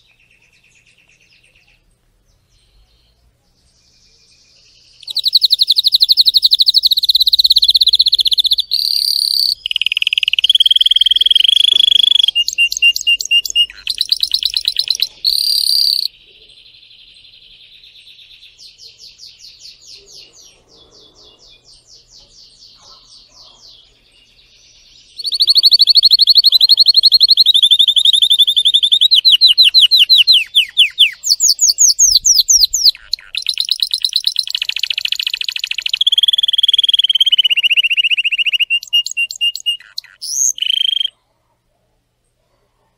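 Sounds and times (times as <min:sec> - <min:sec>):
canary singing trills: 0:03.8 - 0:41.2.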